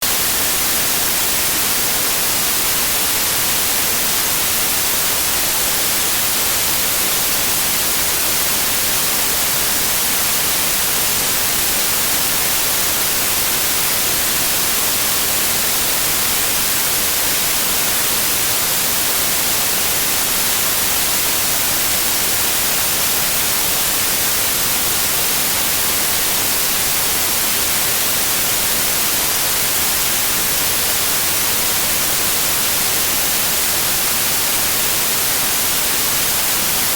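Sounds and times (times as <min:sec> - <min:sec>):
television static hiss: 0:00.0 - 0:36.9.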